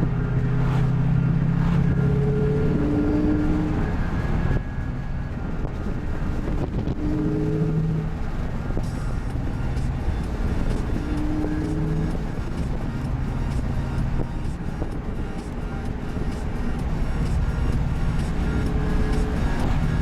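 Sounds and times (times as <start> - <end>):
car engine rumble from inside cabin: 0.0 - 20.0
droning exhaust tone: 0.0 - 20.0.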